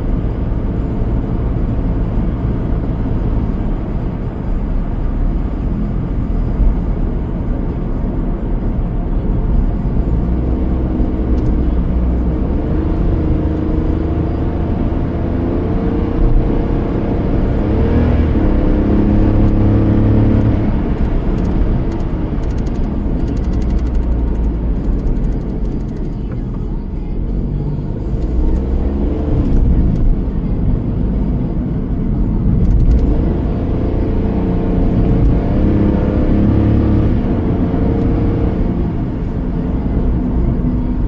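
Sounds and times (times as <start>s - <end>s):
car engine and tyre rumble: 0.0s - 41.0s.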